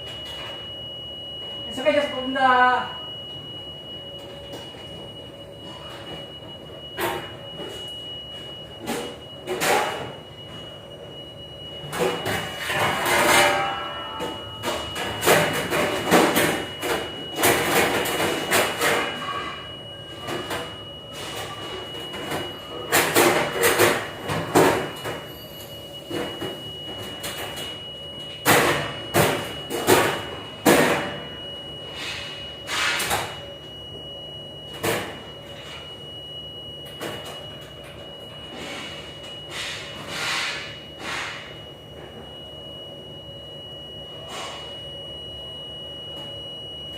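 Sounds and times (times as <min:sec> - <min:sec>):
high-pitched machine whine: 0:00.0 - 0:46.9.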